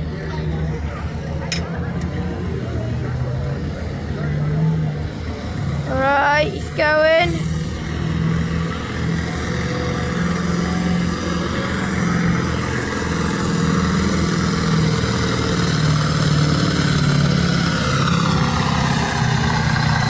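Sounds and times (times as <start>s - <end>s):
tractor engine running hard: 0.0s - 20.0s.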